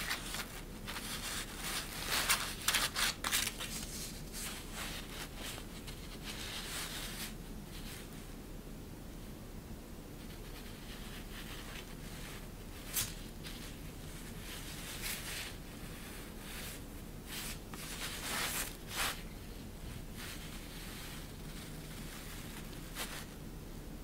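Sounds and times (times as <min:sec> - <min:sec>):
ribbon rustling against fabric: 0:00.0 - 0:08.2, 0:10.2 - 0:23.4.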